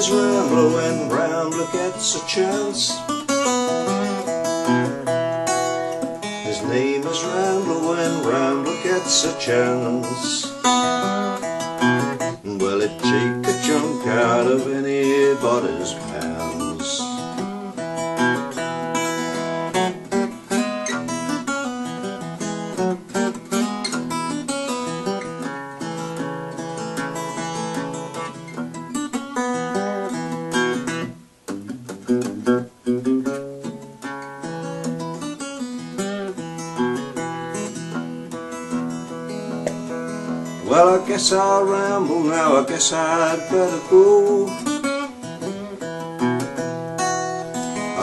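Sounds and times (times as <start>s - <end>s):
fingerpicked acoustic guitar blues: 0.0s - 48.0s.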